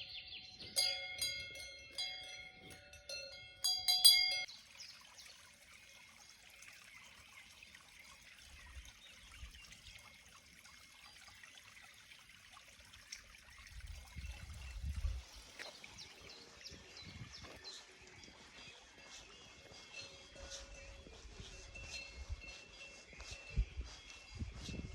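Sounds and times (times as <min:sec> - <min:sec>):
mountain stream trickling: 0:00.0 - 0:23.6.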